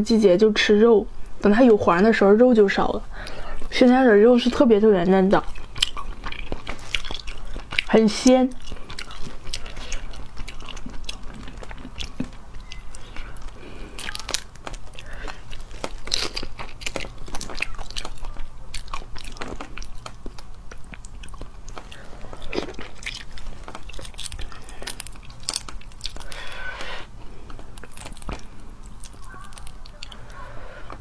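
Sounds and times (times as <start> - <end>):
prawn shells cracking: 5.3 - 31.0.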